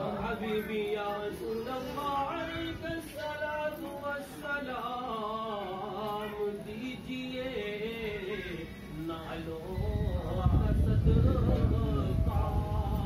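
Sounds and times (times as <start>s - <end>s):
men singing a slow chant: 0.0s - 13.0s.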